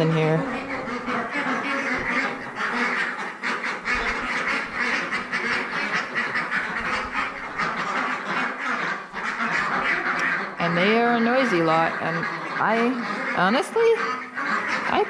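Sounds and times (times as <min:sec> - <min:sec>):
ducks quacking in chorus: 0:00.0 - 0:15.0.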